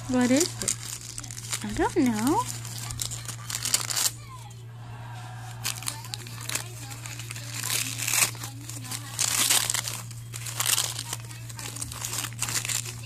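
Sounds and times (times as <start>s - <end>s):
wrapping paper crumpling and tearing: 0.0s - 13.0s.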